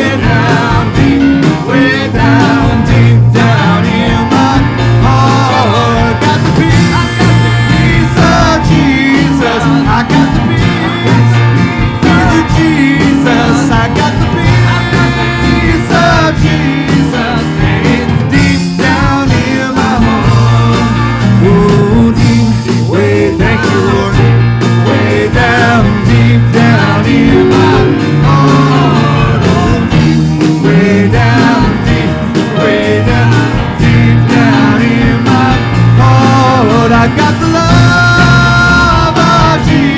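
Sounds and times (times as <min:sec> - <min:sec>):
band playing country gospel song: 0:00.0 - 0:39.9.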